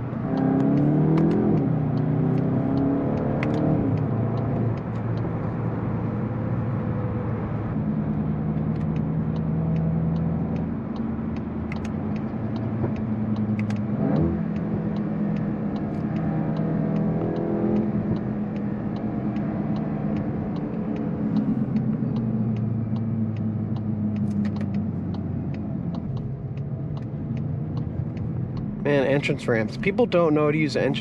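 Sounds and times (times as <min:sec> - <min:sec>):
car engine running: 0:00.0 - 0:31.0
road noise: 0:00.0 - 0:31.0.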